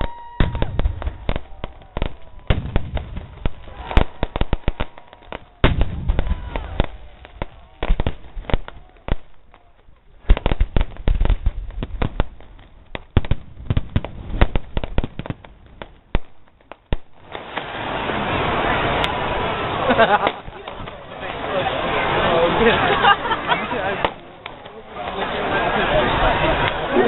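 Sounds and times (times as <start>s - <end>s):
fireworks crackling bangs: 0.0s - 27.0s.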